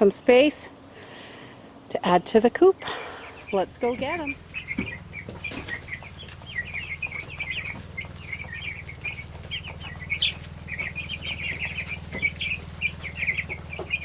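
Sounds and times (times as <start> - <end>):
chicks peeping: 0.0 - 14.0
steady low hum: 0.0 - 14.0.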